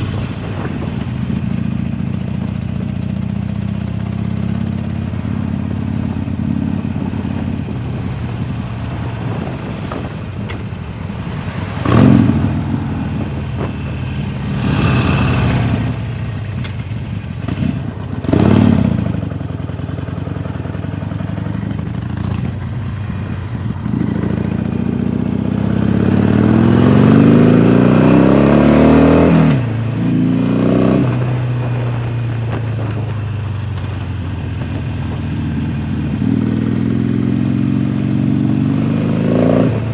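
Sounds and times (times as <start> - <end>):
motorcycle engine revving: 0.0 - 10.5, 11.4 - 39.9.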